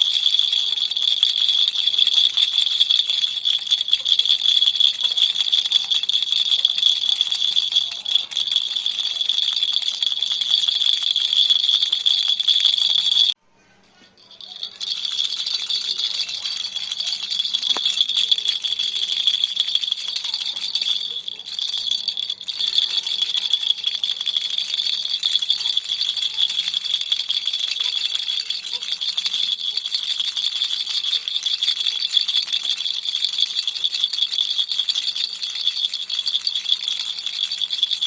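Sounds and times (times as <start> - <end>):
baby toy rattle shaking: 0.0 - 13.4, 14.1 - 38.0.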